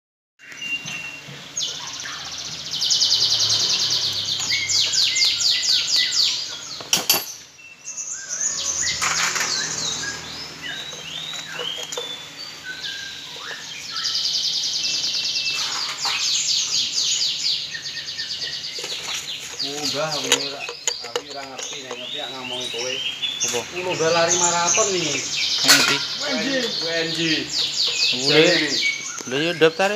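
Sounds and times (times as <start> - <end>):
songbirds chirping and trilling: 0.4 - 29.9.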